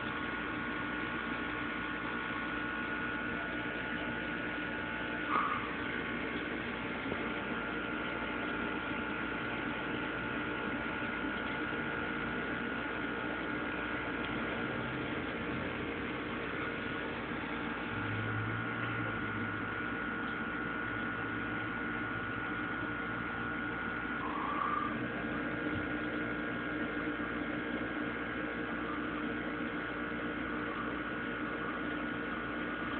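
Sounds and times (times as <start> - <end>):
steady hum and hiss: 0.0 - 32.9.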